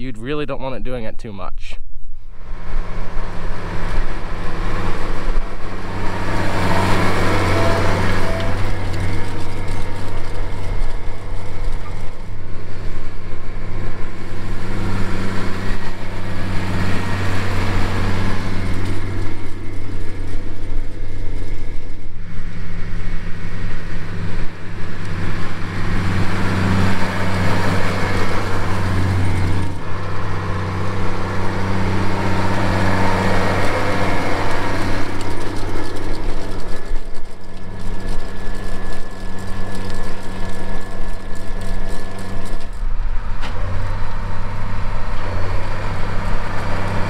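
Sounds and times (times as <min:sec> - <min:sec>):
tractor diesel engine droning: 0:02.3 - 0:47.0.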